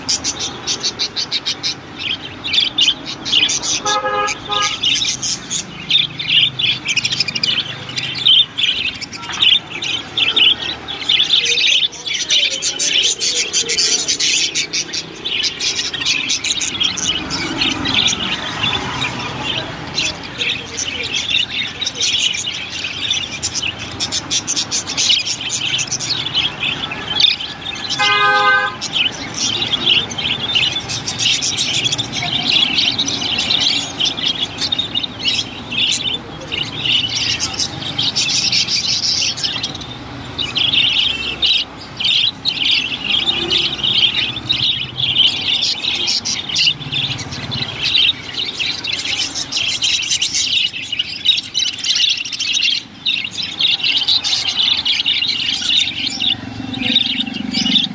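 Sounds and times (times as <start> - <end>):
budgerigars chattering: 0.0 - 57.9.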